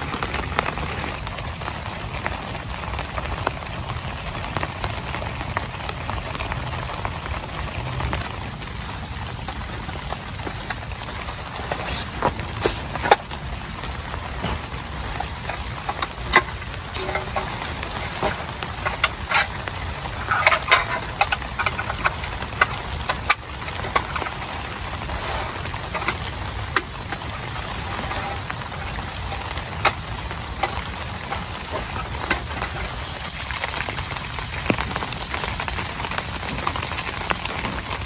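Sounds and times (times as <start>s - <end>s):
raindrops tapping close by: 0.0s - 38.0s
steady rain: 0.0s - 38.0s.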